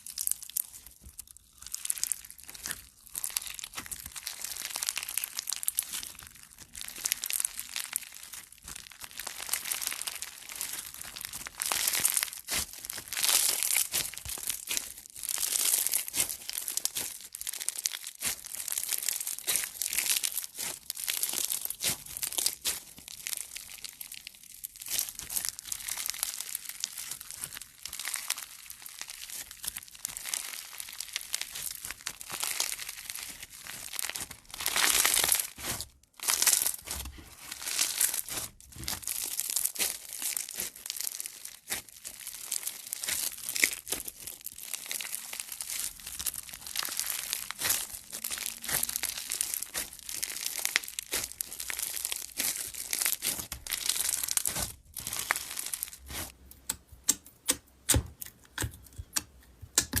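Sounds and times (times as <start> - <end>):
crunchy slime crackling: 0.0 - 60.0.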